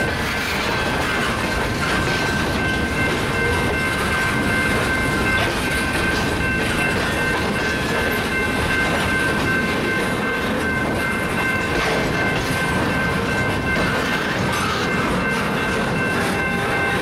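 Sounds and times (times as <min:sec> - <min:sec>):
freight cars rumbling on rails: 0:00.0 - 0:17.0.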